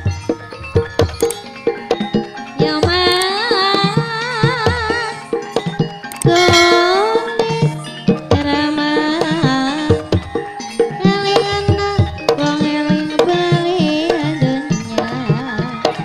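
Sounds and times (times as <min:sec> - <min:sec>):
hand drum strokes: 0:00.0 - 0:16.0
wavering held melody: 0:00.0 - 0:16.0.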